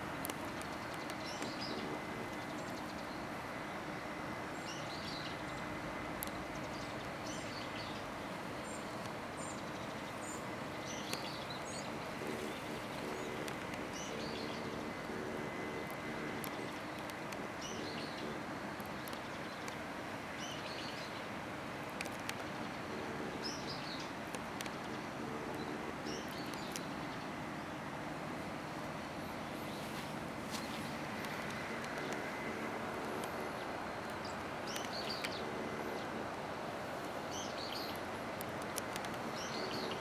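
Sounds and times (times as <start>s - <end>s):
faint low hum: 0.0s - 40.0s
outdoor background hiss: 0.0s - 40.0s
small birds chirping: 0.2s - 27.9s, 28.6s - 40.0s.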